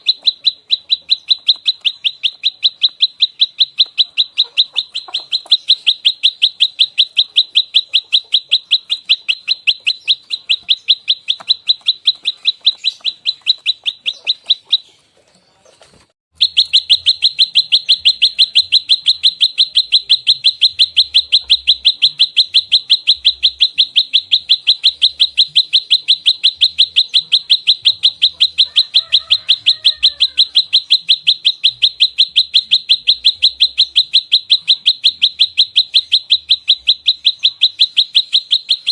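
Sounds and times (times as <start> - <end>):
songbird rapid chip notes: 0.0 - 15.1, 16.3 - 38.9.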